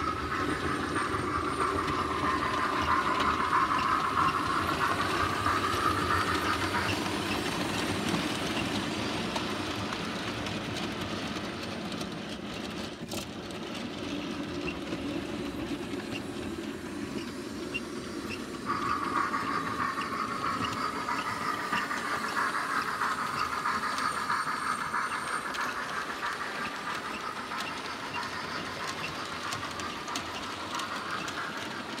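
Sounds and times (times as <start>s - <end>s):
model train hum: 0.0s - 32.0s
wheels clicking over track: 0.0s - 32.0s.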